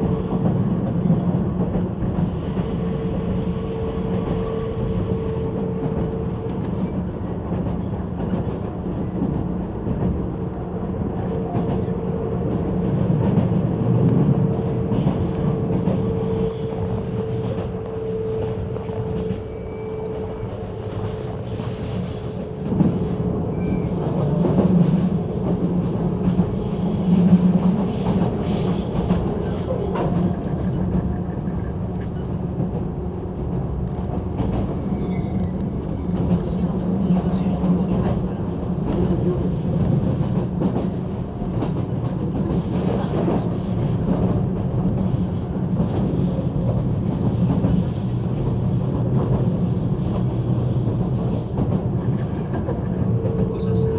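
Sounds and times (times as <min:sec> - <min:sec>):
train wheels rumbling: 0:00.0 - 0:53.9.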